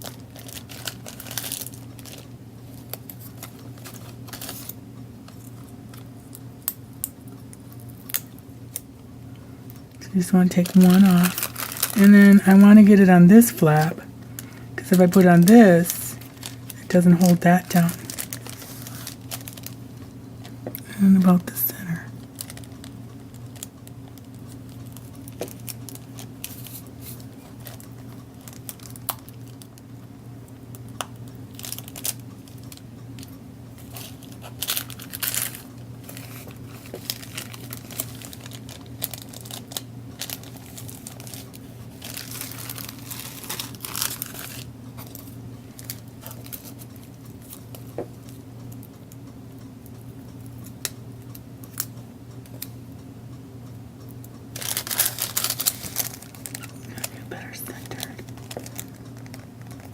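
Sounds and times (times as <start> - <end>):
cellophane bag crinkling: 0.0 - 6.4, 9.7 - 20.8, 21.4 - 29.8, 31.1 - 48.9, 54.6 - 59.9.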